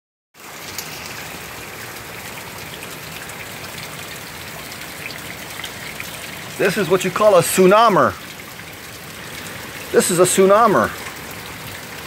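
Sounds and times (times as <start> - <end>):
heavy rain: 0.4 - 12.0.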